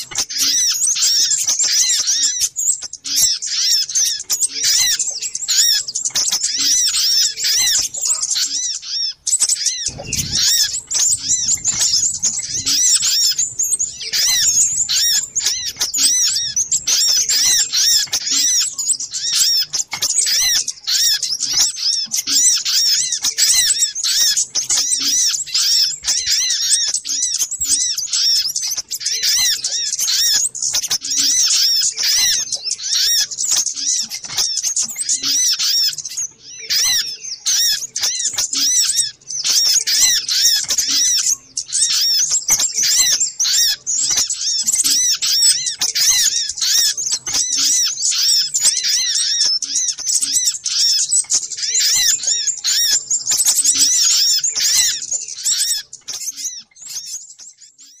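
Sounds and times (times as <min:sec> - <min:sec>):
songbirds twittering: 0:00.0 - 0:58.0.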